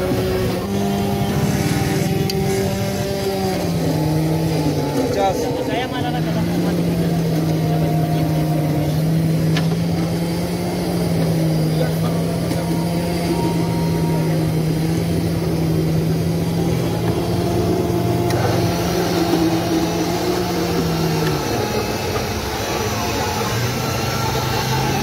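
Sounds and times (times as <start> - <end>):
electric blender motor hum: 0.0 - 25.0.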